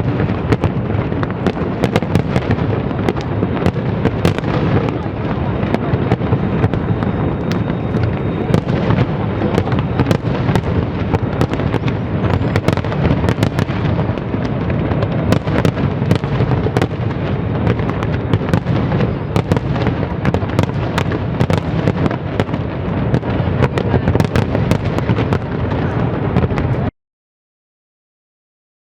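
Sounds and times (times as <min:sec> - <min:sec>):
fireworks bursting: 0:00.0 - 0:26.9.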